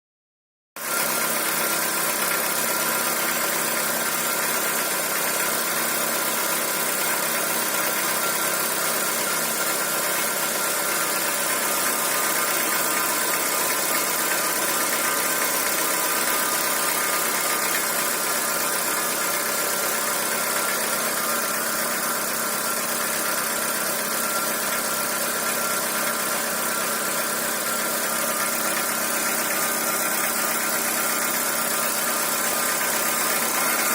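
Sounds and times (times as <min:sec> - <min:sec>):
car engine idling: 0:00.9 - 0:33.9
abnormal engine noise: 0:01.0 - 0:33.9.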